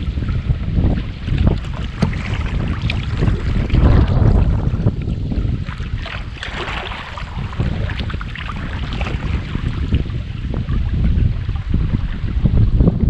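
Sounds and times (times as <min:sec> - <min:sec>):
water splashing against kayak: 0:00.0 - 0:13.0
wind buffeting microphone: 0:00.0 - 0:13.0.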